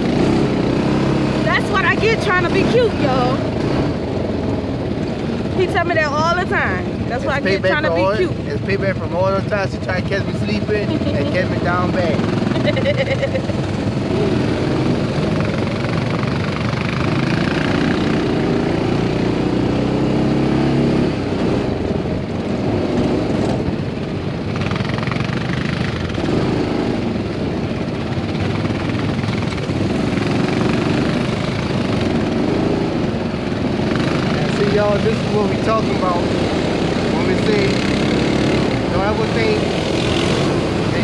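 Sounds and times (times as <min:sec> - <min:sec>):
utility vehicle engine revving: 0:00.0 - 0:41.0.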